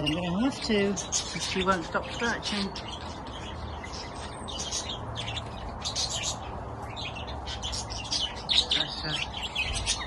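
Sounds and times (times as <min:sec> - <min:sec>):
budgerigars chirping: 0:00.0 - 0:10.0.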